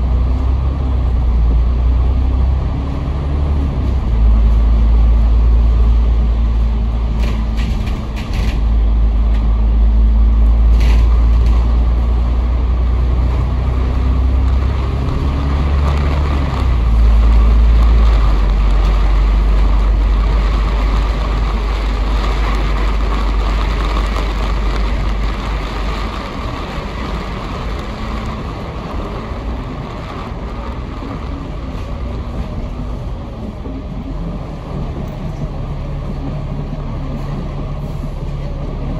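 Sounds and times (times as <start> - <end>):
bus diesel engine running: 0.0 - 38.9
road and tyre rumble: 0.0 - 38.9.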